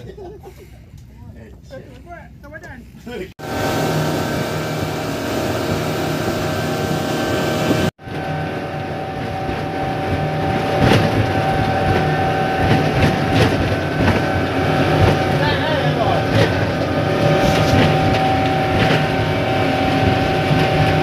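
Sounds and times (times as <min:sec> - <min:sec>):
motorboat engine running: 0:03.4 - 0:21.0
water rushing past hull: 0:03.4 - 0:21.0
waves slapping against hull: 0:03.6 - 0:21.0.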